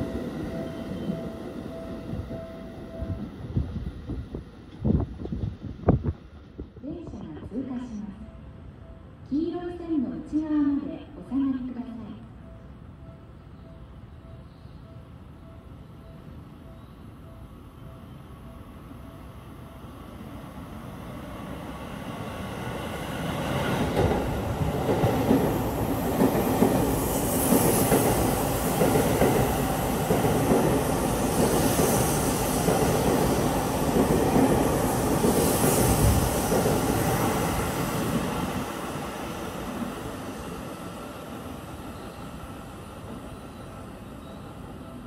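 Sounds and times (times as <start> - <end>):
electric train passing at speed: 0.0 - 45.0.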